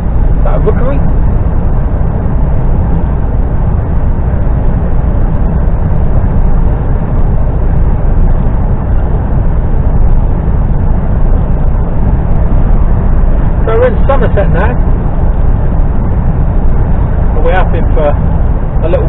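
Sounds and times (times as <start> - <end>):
lorry engine and road noise: 0.0 - 19.0.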